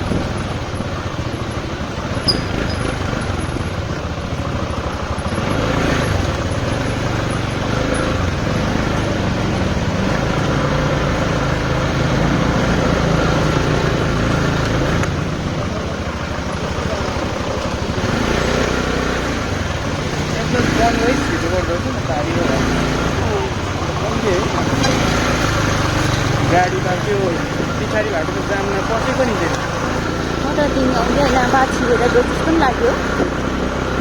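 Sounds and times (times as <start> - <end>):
vehicle engines idling in traffic: 0.0 - 34.0.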